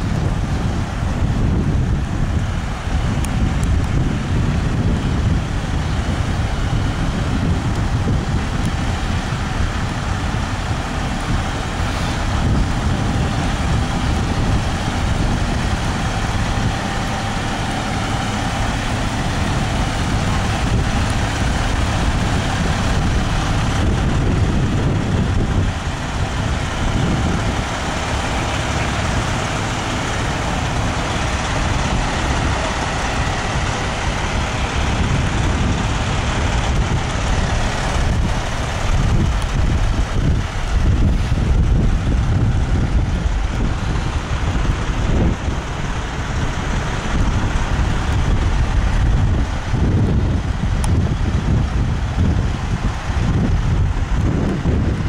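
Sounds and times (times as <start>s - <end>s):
diesel engines idling: 0.0s - 55.0s.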